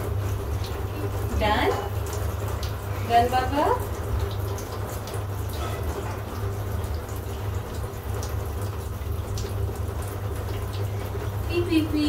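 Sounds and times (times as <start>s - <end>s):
shower water running into bathtub: 0.0s - 12.0s.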